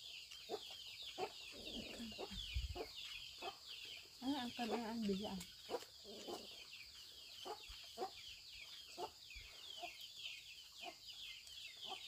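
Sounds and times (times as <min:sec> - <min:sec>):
chicks peeping: 0:00.0 - 0:12.0
chickens clucking: 0:00.2 - 0:12.0.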